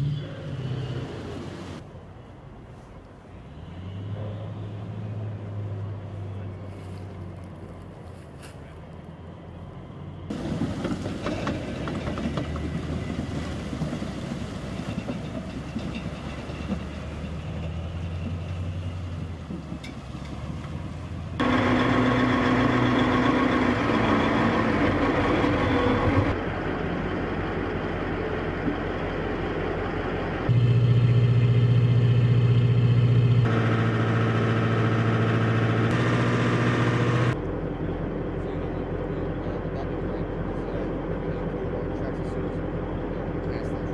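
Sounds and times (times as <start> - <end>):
diesel engine running: 3.7 - 43.9.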